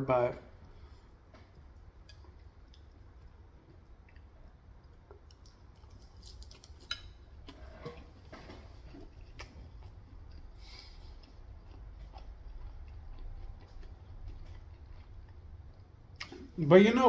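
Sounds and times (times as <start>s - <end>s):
chewing fried chicken: 0.4s - 17.0s.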